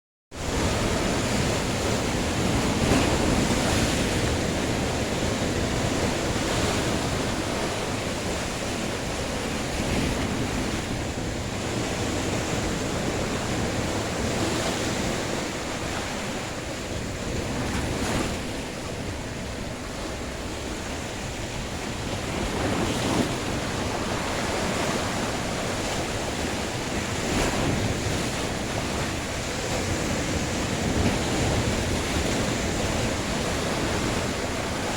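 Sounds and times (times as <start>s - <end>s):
sea waves breaking: 0.4s - 34.9s
wind across microphone: 0.4s - 34.9s.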